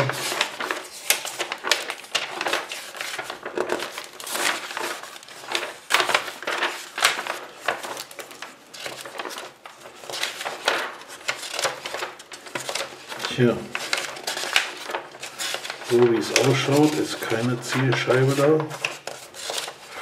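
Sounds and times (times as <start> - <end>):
magazine pages turning: 0.0 - 20.0.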